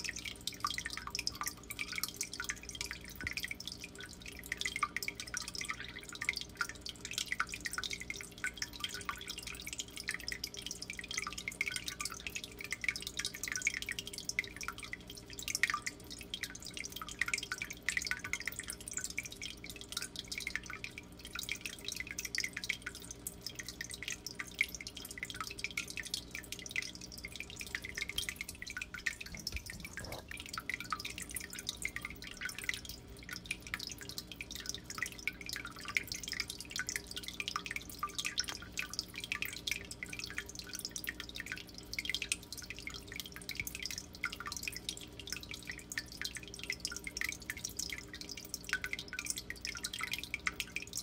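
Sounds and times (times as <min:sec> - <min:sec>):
water trickling and dripping: 0:00.0 - 0:51.0.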